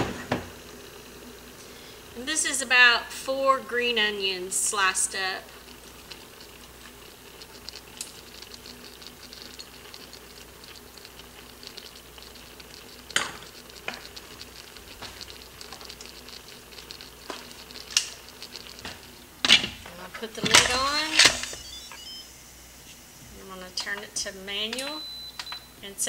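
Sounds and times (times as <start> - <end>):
food sizzling in a pot: 0.0 - 25.8.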